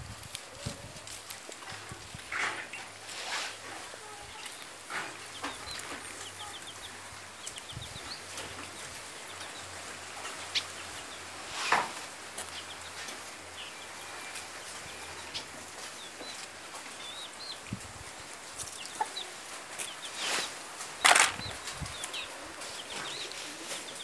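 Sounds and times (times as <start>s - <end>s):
chickens clucking: 0.3s - 24.0s.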